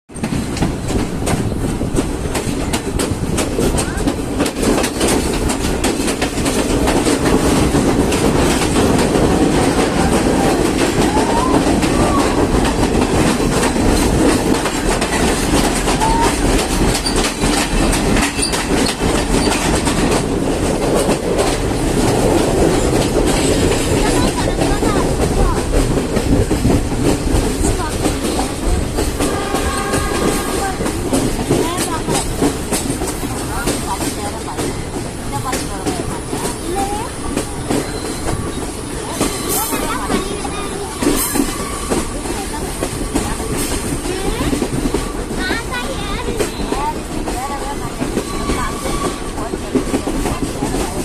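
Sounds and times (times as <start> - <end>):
train rumbling: 0.1 - 51.0
wheels clacking over rail joints: 0.1 - 51.0.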